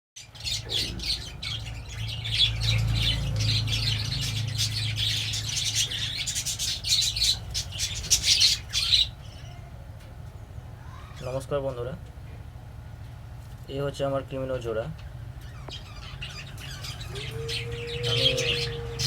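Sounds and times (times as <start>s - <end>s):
lovebirds squawking and chattering: 0.2s - 11.6s, 15.0s - 19.0s
low steady hum: 0.2s - 19.0s.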